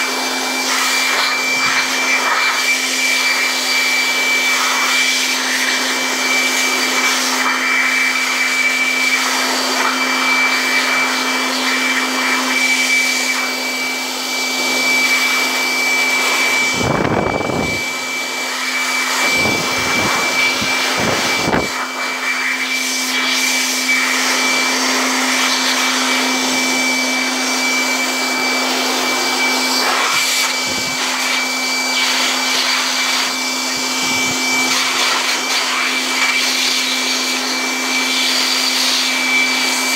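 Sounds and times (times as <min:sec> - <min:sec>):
electric air blower running: 0:00.0 - 0:39.9.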